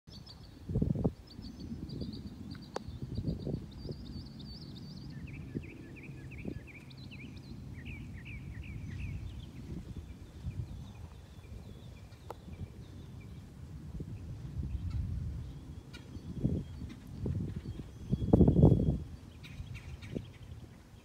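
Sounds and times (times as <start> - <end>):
steady low rumble: 0.2 - 21.0
bird chirping quickly: 1.2 - 13.4, 14.6 - 21.0.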